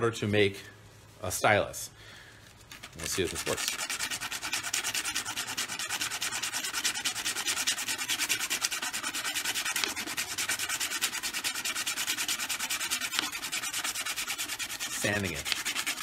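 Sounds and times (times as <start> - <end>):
sandpaper rubbing on wood: 2.6 - 16.0.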